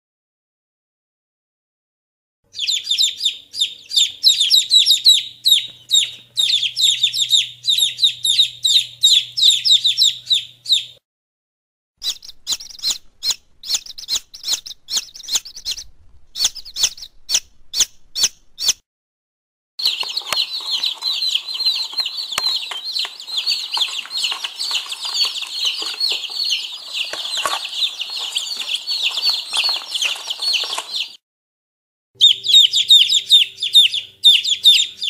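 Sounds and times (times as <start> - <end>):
baby chicks peeping: 2.5 - 11.0, 12.0 - 18.8, 19.8 - 31.2, 32.2 - 35.0.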